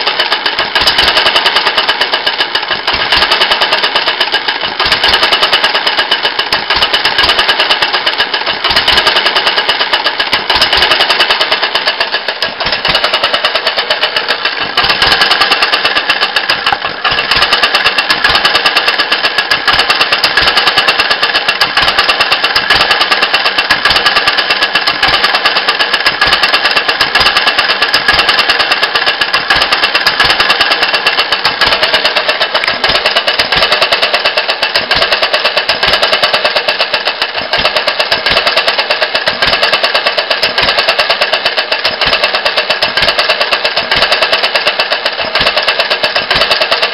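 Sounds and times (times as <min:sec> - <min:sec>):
petrol engine knocking: 0:00.0 - 0:46.9.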